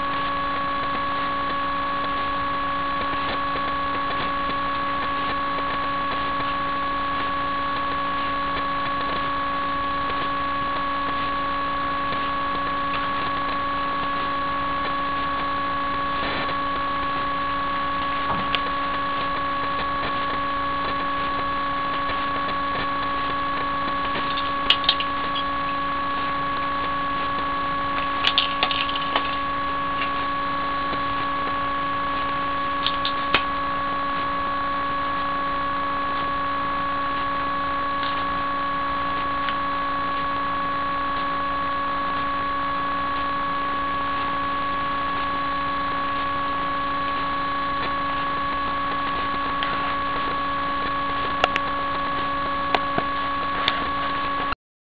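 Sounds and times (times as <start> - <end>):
steady electrical whine: 0.0 - 54.6.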